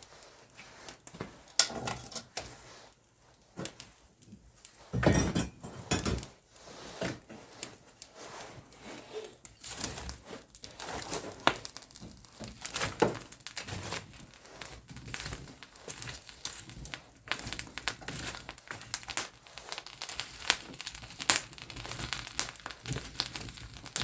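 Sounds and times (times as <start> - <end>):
objects knocking and crinkling: 0.4 - 2.6, 3.4 - 6.4, 7.0 - 24.0.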